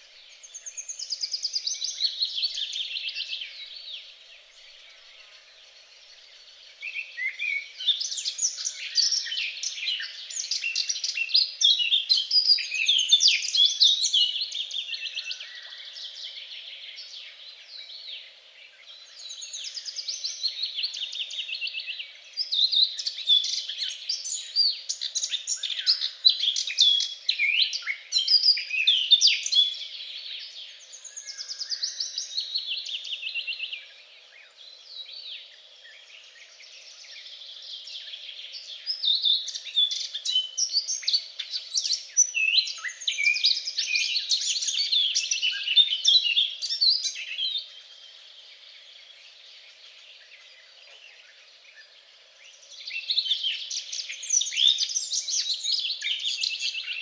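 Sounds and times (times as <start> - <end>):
songbirds trilling and chirping: 0.0 - 57.0.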